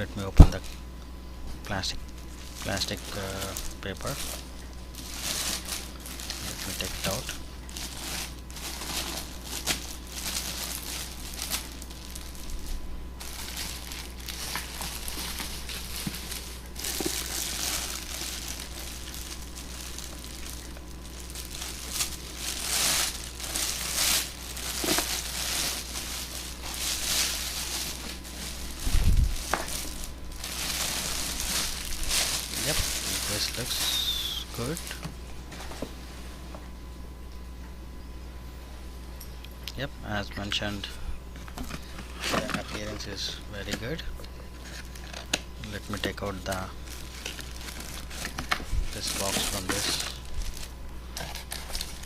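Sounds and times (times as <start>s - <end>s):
plastic wrap crinkling: 2.0s - 35.8s, 41.5s - 52.0s.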